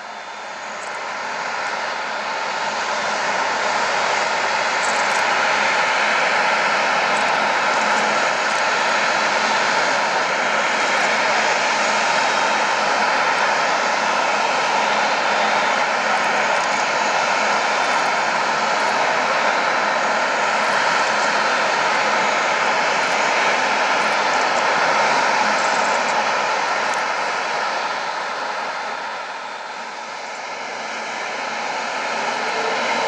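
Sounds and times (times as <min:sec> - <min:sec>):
jet engines running: 0:00.0 - 0:33.0.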